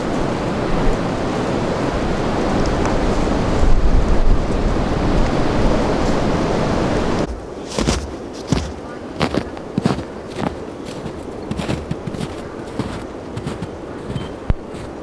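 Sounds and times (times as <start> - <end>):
strong wind gusts on microphone: 0.0 - 15.0.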